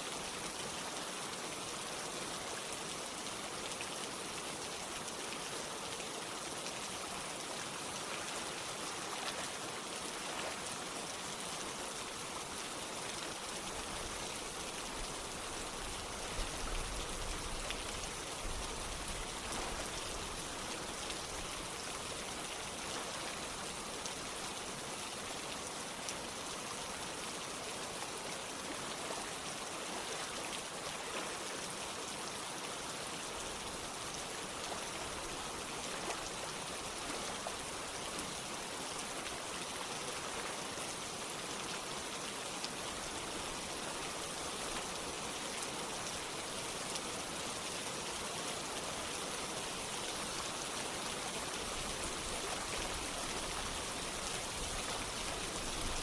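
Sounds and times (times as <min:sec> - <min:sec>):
running water: 0:00.0 - 0:56.0
steady rain: 0:00.0 - 0:56.0.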